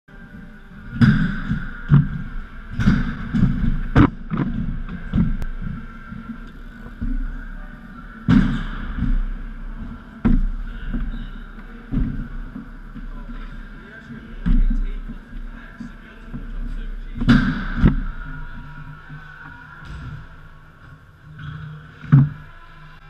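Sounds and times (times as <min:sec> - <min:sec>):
bike wheels rolling on wooden ramps: 0:00.2 - 0:23.0
tyres thudding on ramps: 0:00.7 - 0:22.9.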